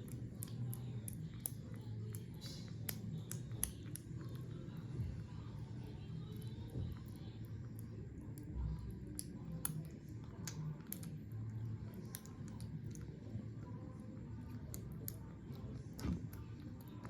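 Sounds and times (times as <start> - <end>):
kittens chewing and lapping: 0.0 - 17.0.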